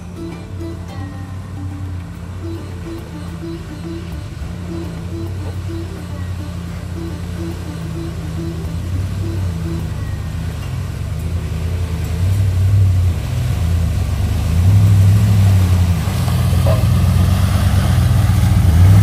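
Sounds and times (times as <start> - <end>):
mud and water churning: 0.0 - 19.0
truck engine revving: 0.0 - 19.0.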